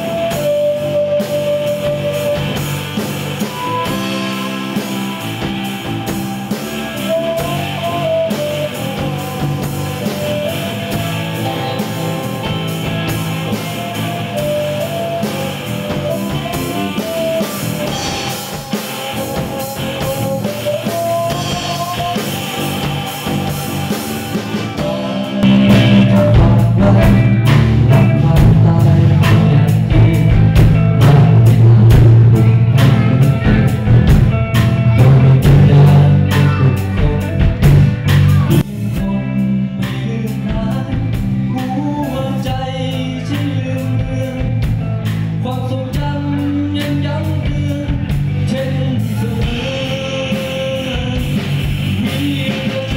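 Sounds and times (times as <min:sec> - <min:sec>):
bass guitar: 0:00.0 - 0:52.9
drum kit: 0:00.0 - 0:52.9
electric guitars: 0:00.0 - 0:52.9.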